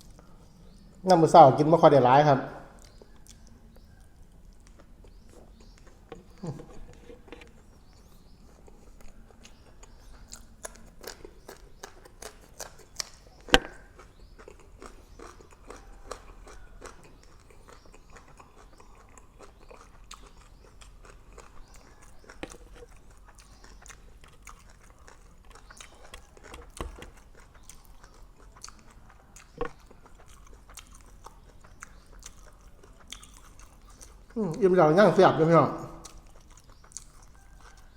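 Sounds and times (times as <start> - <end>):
person chewing food: 0.0 - 1.1, 2.7 - 34.8, 35.9 - 37.9.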